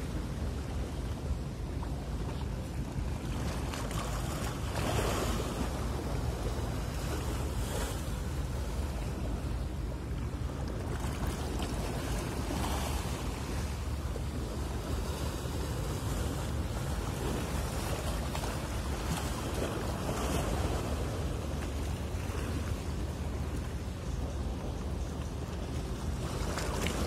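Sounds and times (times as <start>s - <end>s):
constant low rumble: 0.0s - 27.0s.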